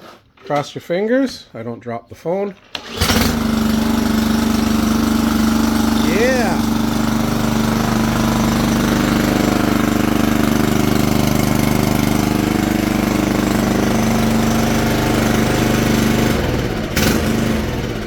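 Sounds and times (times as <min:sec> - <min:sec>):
lawn mower engine running: 0:02.7 - 0:18.0.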